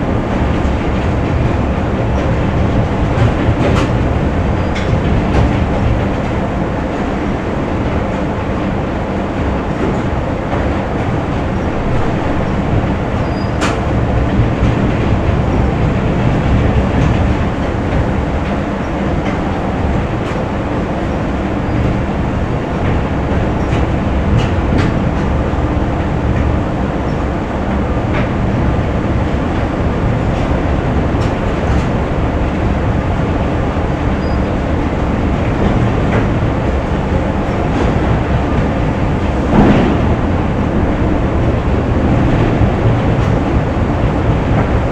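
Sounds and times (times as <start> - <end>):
factory machinery rumble and hum: 0.0 - 44.9.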